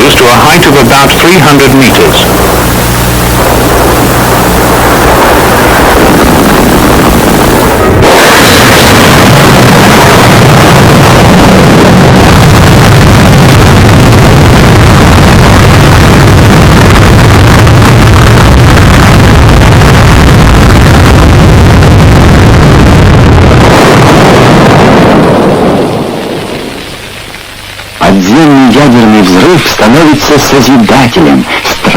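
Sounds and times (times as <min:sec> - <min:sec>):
explosion roar: 0:00.0 - 0:31.2.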